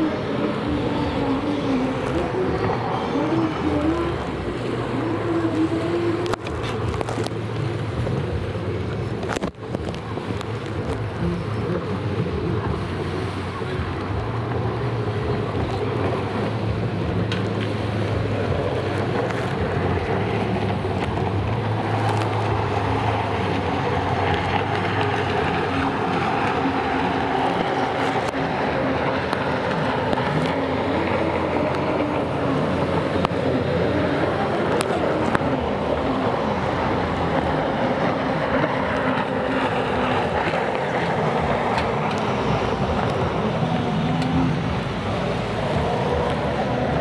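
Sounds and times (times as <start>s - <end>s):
jet ski engine drone: 0.0s - 47.0s.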